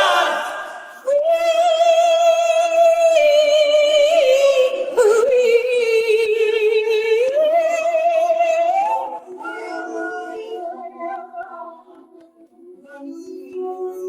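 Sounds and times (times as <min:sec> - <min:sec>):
layered harmony voices: 0:00.0 - 0:14.0.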